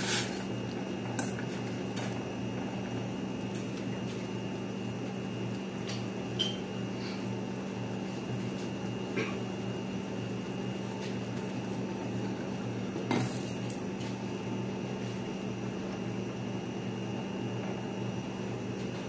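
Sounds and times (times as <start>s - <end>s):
kitchen appliance humming: 0.0s - 19.0s.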